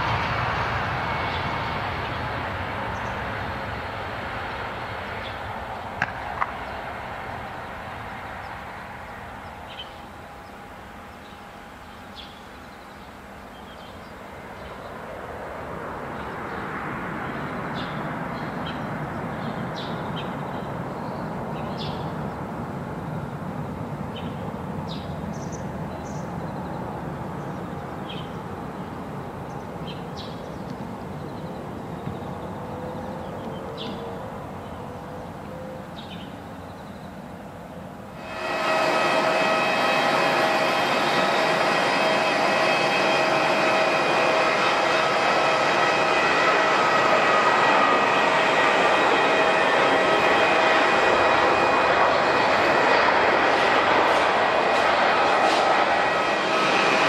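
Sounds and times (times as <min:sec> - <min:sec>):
jet airliner engine noise: 0:00.0 - 0:57.0.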